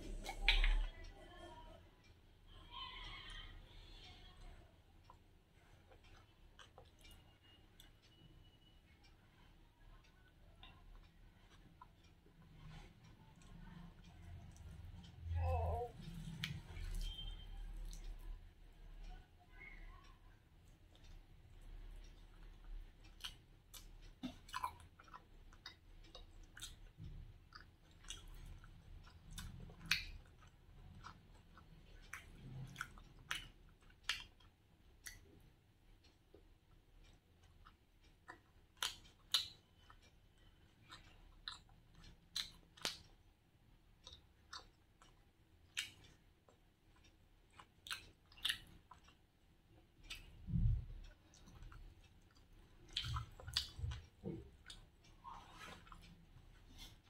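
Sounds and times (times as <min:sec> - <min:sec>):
person chewing food: 0:00.0 - 0:01.1, 0:04.9 - 0:18.5, 0:20.4 - 0:57.0.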